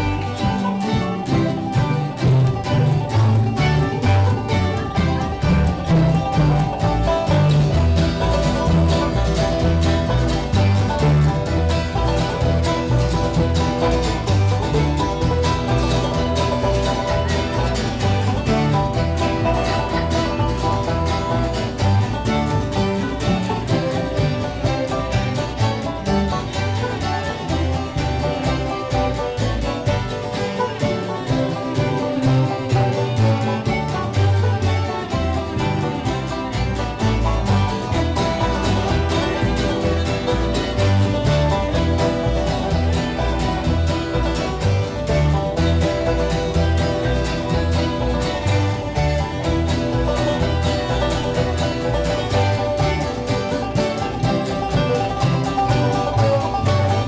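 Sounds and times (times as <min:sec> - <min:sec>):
banjo picking: 0:00.0 - 0:57.0
bluegrass band playing: 0:00.0 - 0:57.0
guitar strumming: 0:00.0 - 0:57.0
steady low bass notes: 0:00.0 - 0:57.0.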